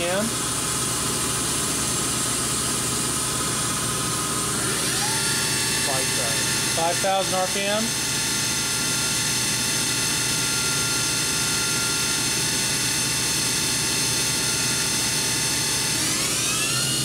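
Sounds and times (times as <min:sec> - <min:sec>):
machine spindle whine: 0:00.0 - 0:17.0.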